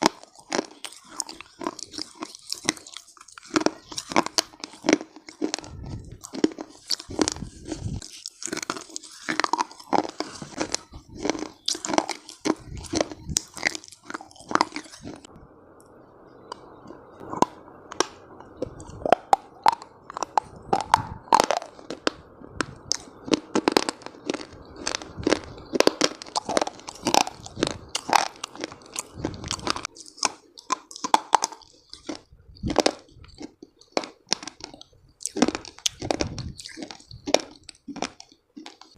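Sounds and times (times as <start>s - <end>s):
chalk crunching in mouth: 0.0s - 15.3s, 17.2s - 38.9s.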